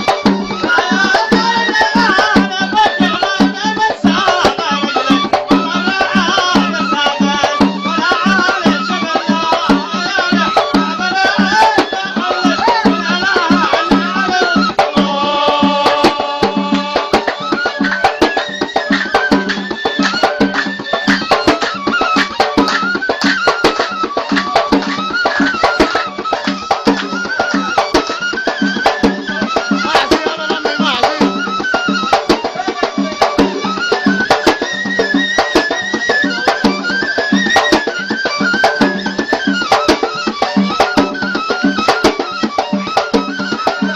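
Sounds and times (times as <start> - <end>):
drum beating fast rhythm: 0.0 - 43.9
reed pipe melody: 0.0 - 43.9.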